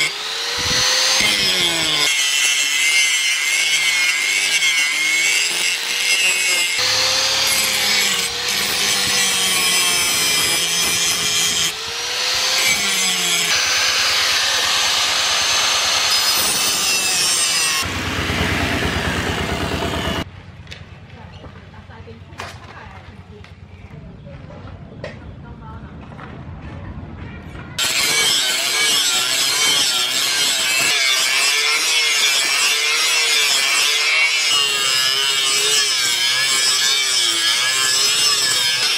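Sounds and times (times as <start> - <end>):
angle grinder grinding steel: 0.0 - 20.2, 27.8 - 38.9.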